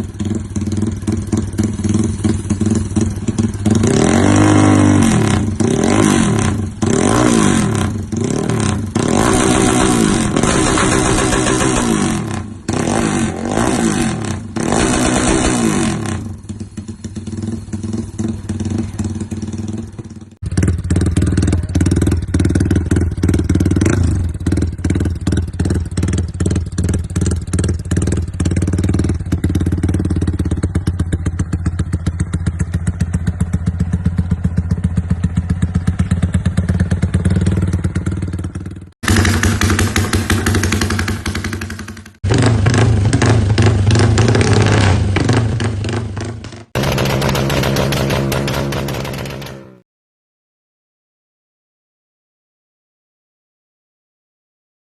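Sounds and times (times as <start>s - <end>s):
motorcycle engine revving and idling: 0.0s - 49.8s.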